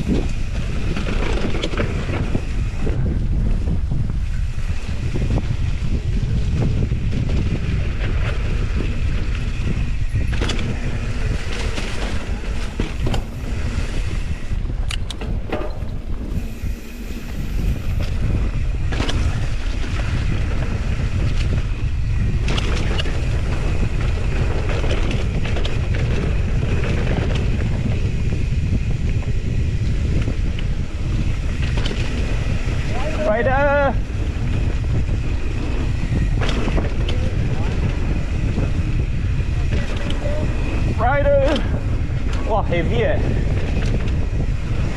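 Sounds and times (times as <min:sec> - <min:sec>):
bike knocks and rattles: 0:00.0 - 0:44.9
deep rumble of bike: 0:00.0 - 0:44.9
wind buffeting microphone: 0:00.0 - 0:44.9.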